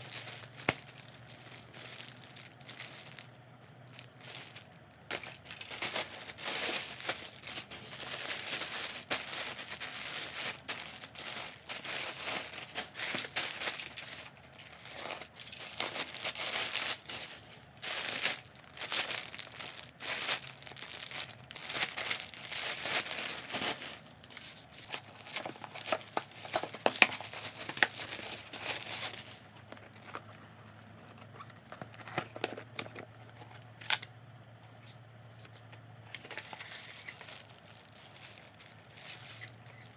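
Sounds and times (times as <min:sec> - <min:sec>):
plastic packaging crinkling and tearing: 0:00.0 - 0:34.0, 0:36.2 - 0:39.9.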